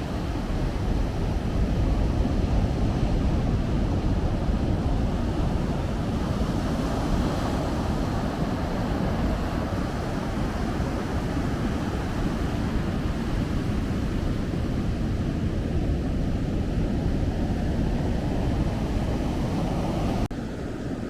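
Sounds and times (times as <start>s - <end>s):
ocean surf rumbling: 0.0s - 21.0s
wind buffeting microphone: 0.0s - 21.0s.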